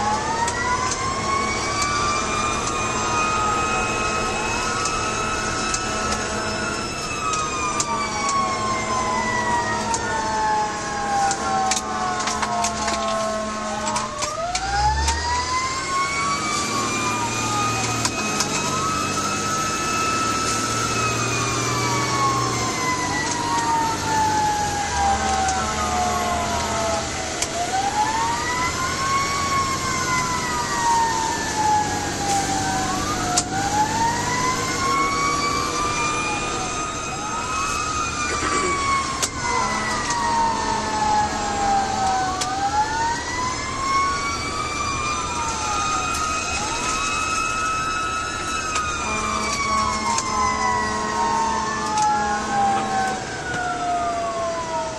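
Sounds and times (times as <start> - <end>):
fire engine siren wailing: 0.0 - 54.9.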